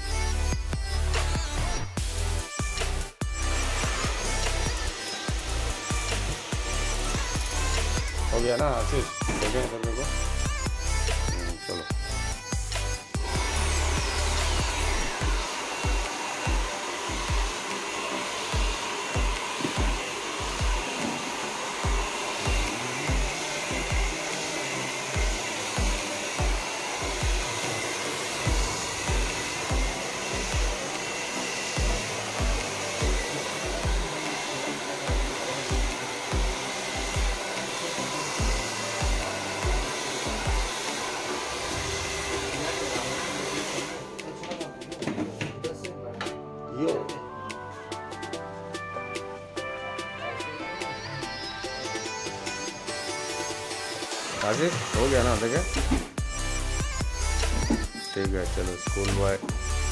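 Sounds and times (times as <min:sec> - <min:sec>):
hair dryer blowing: 0:00.0 - 0:45.4, 0:48.2 - 0:59.9
background music beat: 0:00.0 - 0:59.9.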